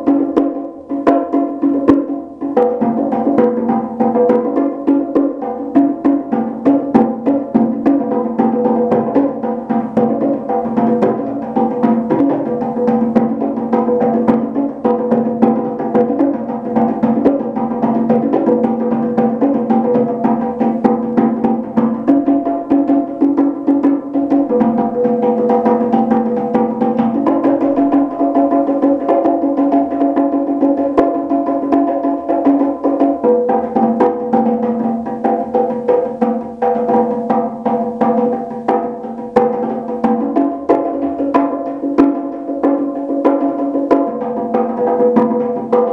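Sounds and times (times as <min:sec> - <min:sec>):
bongos played by hand: 0:00.0 - 0:45.9.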